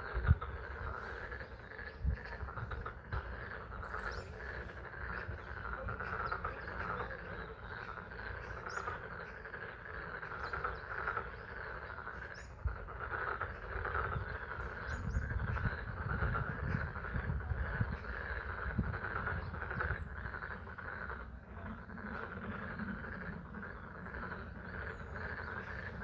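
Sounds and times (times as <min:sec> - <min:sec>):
frog chorus: 0:00.0 - 0:26.0.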